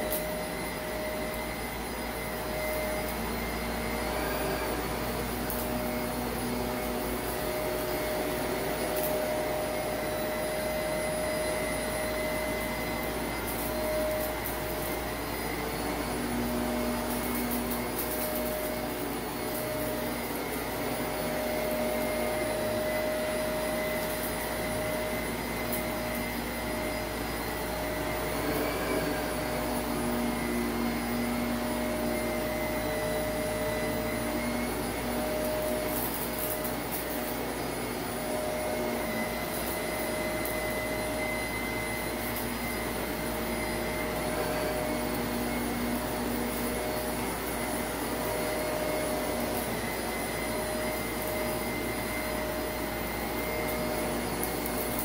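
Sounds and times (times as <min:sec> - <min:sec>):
upright vacuum motor whine: 0:00.0 - 0:55.0.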